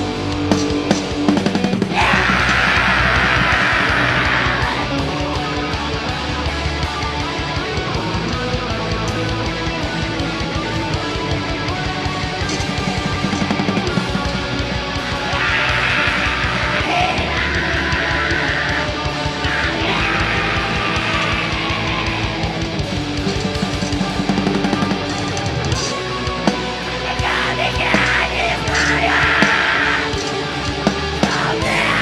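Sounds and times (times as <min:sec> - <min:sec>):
distorted electric guitars: 0:00.0 - 0:32.0
drum kit: 0:00.0 - 0:32.0.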